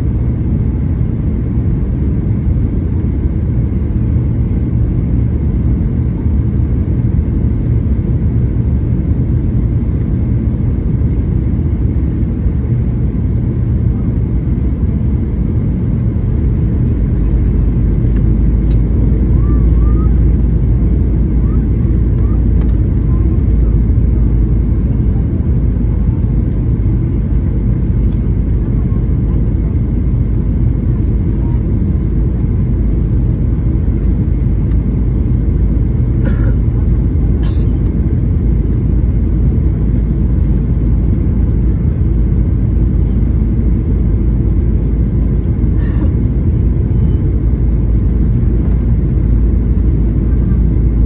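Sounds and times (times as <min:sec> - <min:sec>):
jet engines rumbling in cabin: 0:00.0 - 0:51.0.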